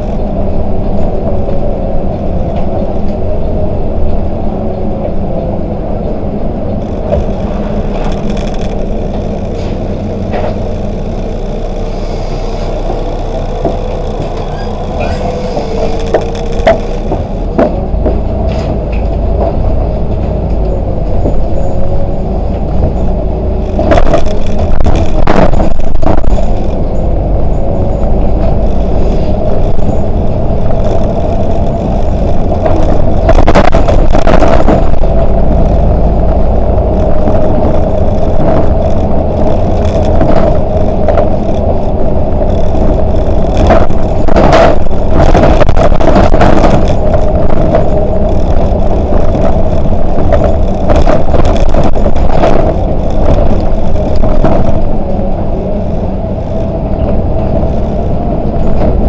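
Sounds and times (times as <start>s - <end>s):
bus engine rumble: 0.0s - 59.0s
steady whine: 0.0s - 59.0s.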